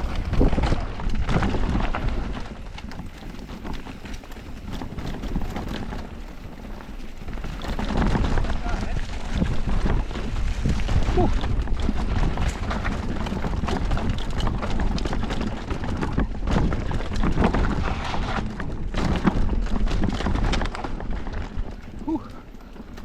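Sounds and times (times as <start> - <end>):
bike tyres clattering over rocks: 0.0 - 23.0
wind rumble on microphone: 0.0 - 23.0.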